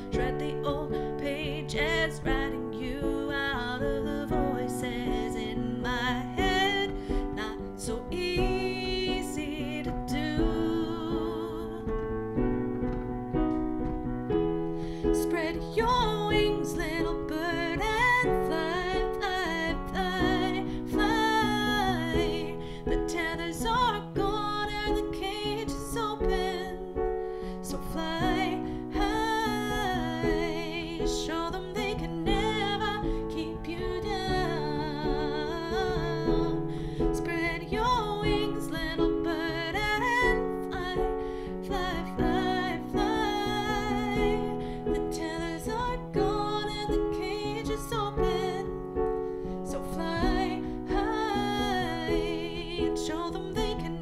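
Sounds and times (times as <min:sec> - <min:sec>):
woman singing wordless melody: 0:00.0 - 0:13.5, 0:14.3 - 0:54.0
piano chords: 0:00.0 - 0:54.0.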